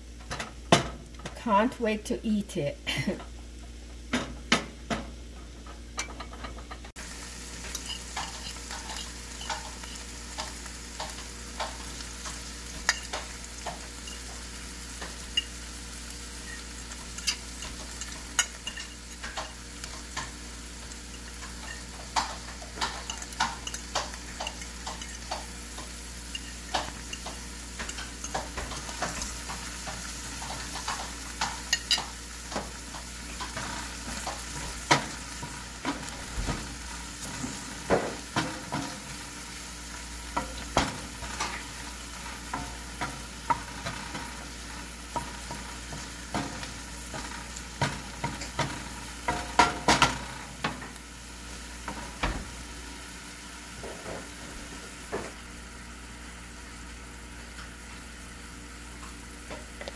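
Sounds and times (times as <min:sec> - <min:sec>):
onions sizzling in oil: 0:02.3 - 0:59.9.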